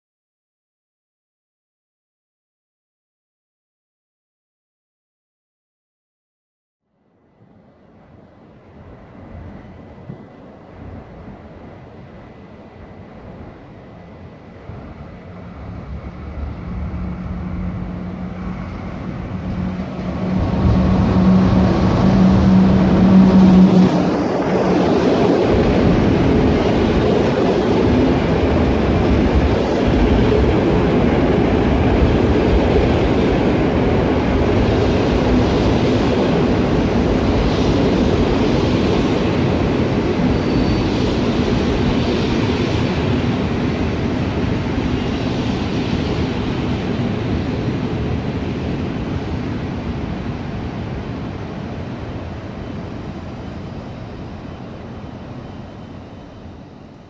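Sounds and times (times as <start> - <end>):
electric locomotive hum: 7.1 - 57.0
train wheels on rails: 8.2 - 57.0.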